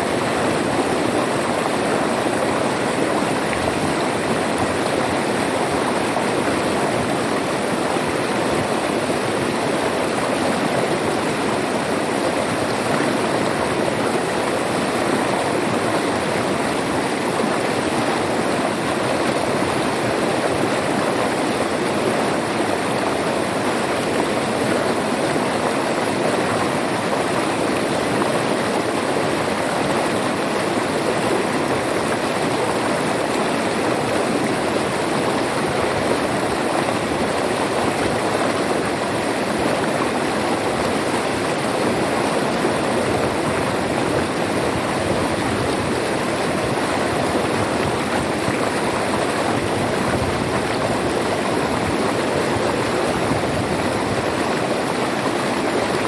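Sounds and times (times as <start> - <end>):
river water flowing and splashing: 0.0 - 56.0.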